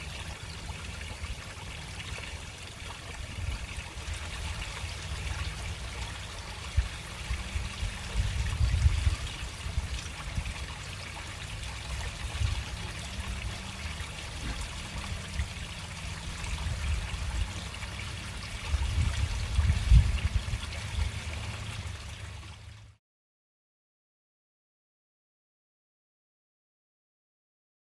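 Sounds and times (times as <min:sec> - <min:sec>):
water trickling through drain: 0:00.0 - 0:23.0.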